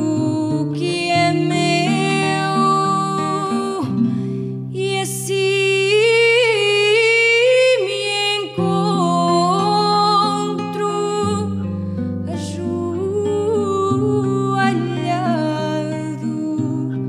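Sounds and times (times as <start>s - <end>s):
acoustic guitar: 0.0s - 17.0s
person singing slow song: 0.0s - 17.0s.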